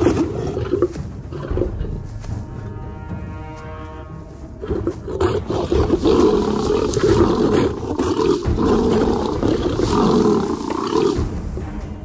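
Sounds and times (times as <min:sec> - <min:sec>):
lions growling and roaring: 0:00.0 - 0:02.2, 0:04.5 - 0:12.0.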